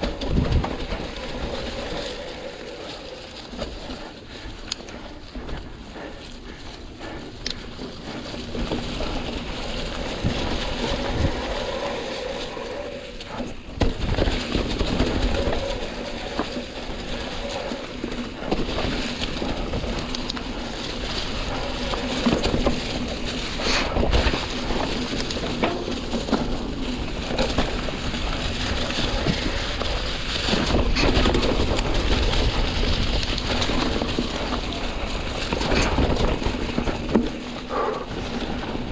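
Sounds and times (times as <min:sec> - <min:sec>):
bike rattling over bumps: 0:00.0 - 0:38.9
tyres crunching through leaves: 0:00.0 - 0:38.9
wind noise on microphone: 0:00.0 - 0:38.9.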